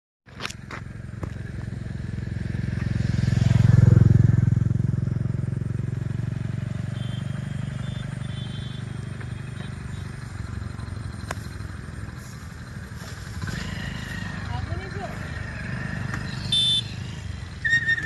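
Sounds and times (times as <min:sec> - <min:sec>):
vehicle engine passing: 0:01.0 - 0:18.0.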